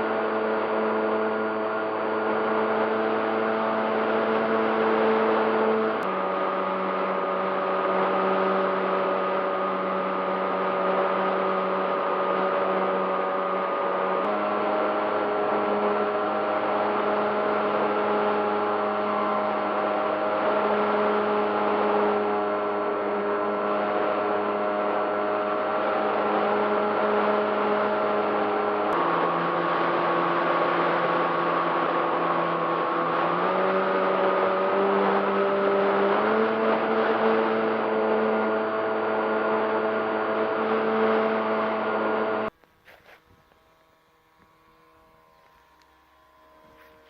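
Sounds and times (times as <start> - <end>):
model airplane motor drone: 0.0 - 47.0.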